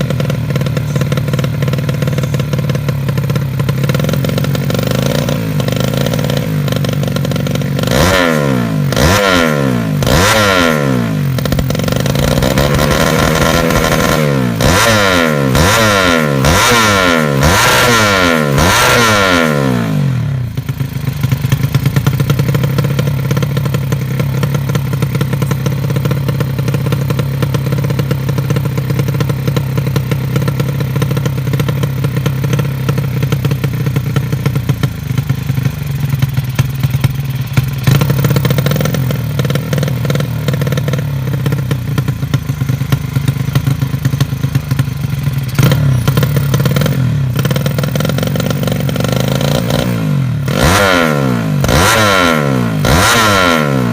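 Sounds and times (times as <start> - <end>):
motorcycle engine revving and idling: 0.0 - 53.9.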